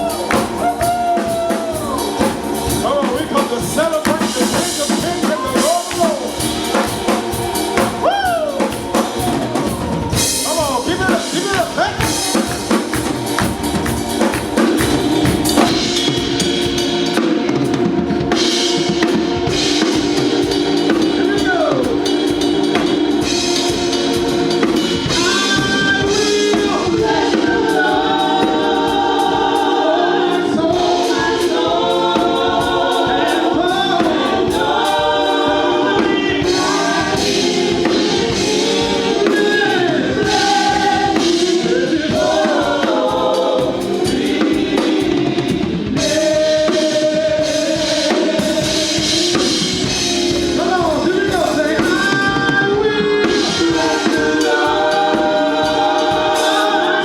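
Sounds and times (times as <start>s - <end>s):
choir singing gospel song: 0.0s - 57.0s
drums and band: 0.0s - 57.0s.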